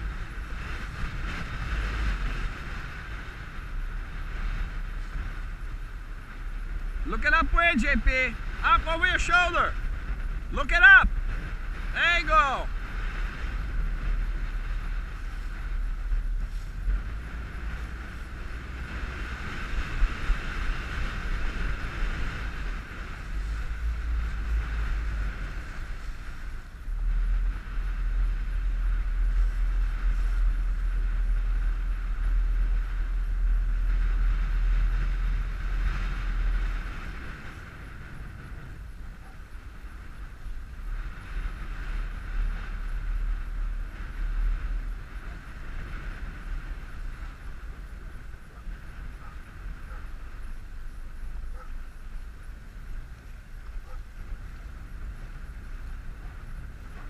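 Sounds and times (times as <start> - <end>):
outboard engine running: 0.0 - 57.0
wind buffeting microphone: 0.0 - 57.0.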